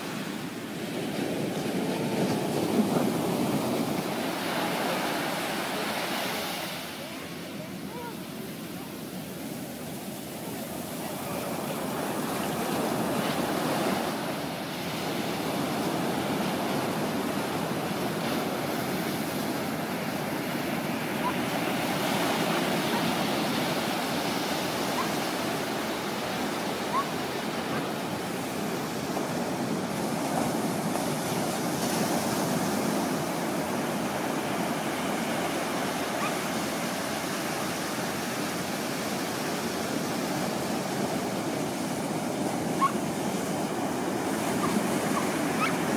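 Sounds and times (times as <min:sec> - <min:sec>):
ocean surf breaking: 0:00.0 - 0:45.9.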